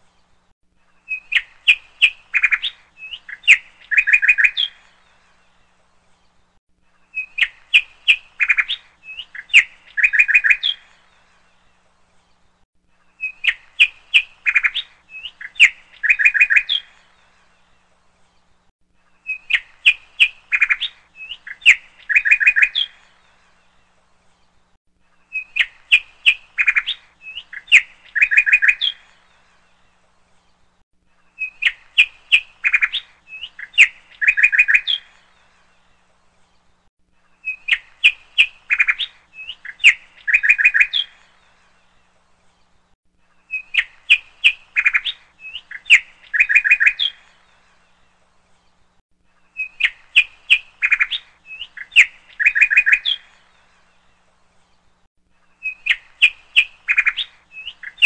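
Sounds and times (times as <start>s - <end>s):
bird chirps and trills: 0.0s - 58.0s.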